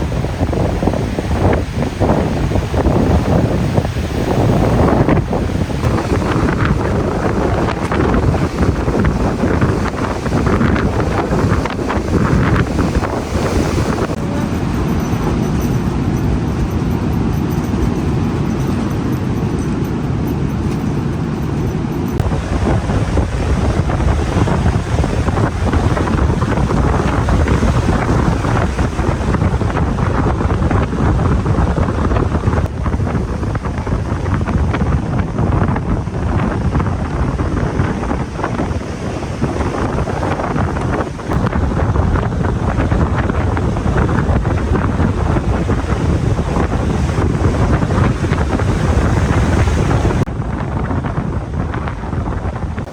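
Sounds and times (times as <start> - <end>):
strong wind on microphone: 0.0 - 52.9.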